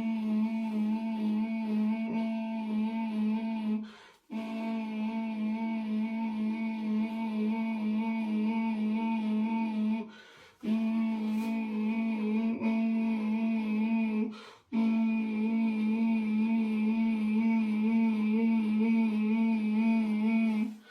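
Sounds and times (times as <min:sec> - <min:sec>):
person humming low note: 0:00.0 - 0:20.9.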